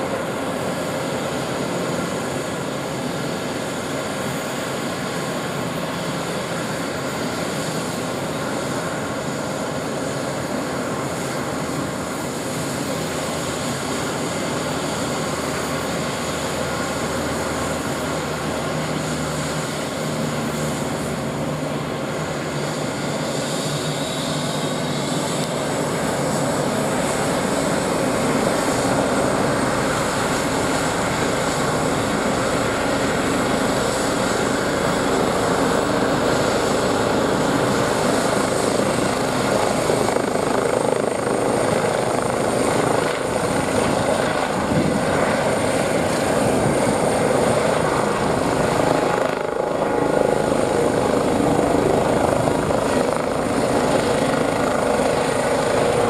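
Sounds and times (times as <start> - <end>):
helicopter rotors running: 0.0 - 56.0
high turbine whine: 0.0 - 56.0.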